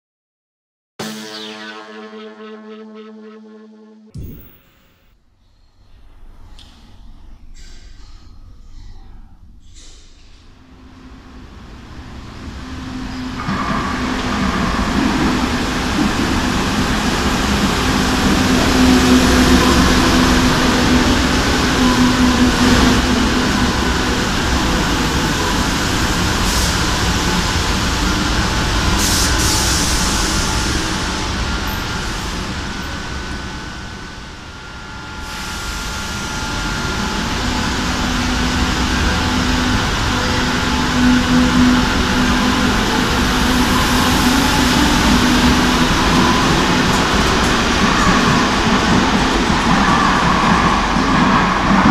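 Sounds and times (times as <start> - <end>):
train wheels rumbling on rail: 9.6 - 51.9.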